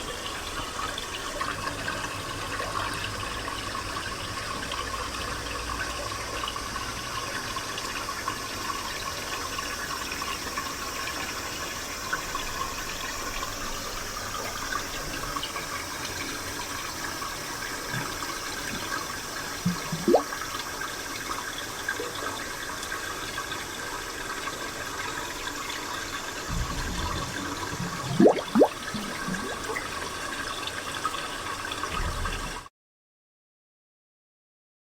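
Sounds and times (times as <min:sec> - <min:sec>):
water flowing and trickling: 0:00.0 - 0:32.7
water gurgles: 0:00.0 - 0:32.7.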